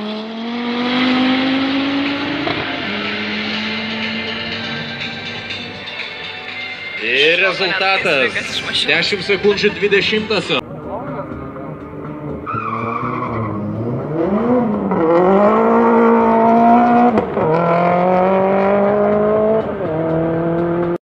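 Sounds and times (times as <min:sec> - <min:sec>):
racing car engines revving: 0:00.0 - 0:05.8, 0:08.8 - 0:21.0.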